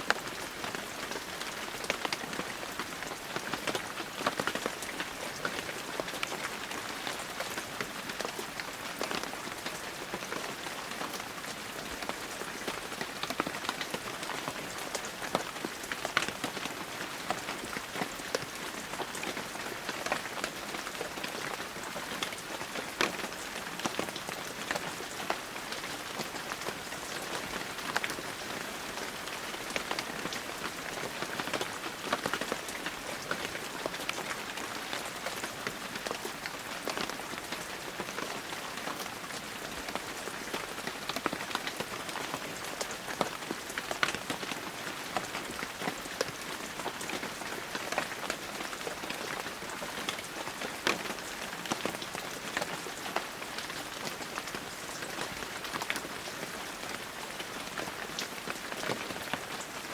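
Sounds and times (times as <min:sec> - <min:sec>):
heavy rain with ticking drops: 0:00.0 - 0:59.9.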